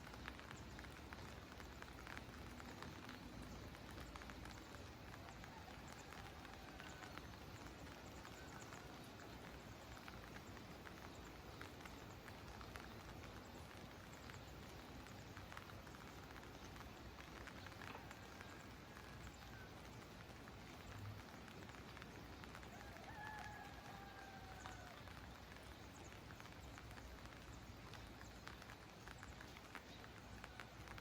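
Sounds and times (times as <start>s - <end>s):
rain drops ticking: 0.0s - 31.0s.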